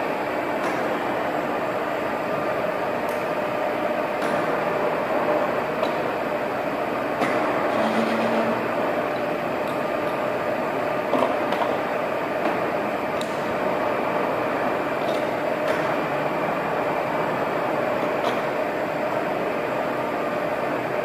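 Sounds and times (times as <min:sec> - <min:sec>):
lathe running: 0:01.2 - 0:21.0.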